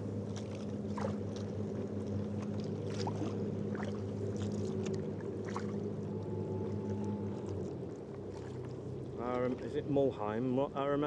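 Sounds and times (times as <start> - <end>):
steady low hum: 0.0 - 11.0
paddle drips and splashes: 0.2 - 9.7.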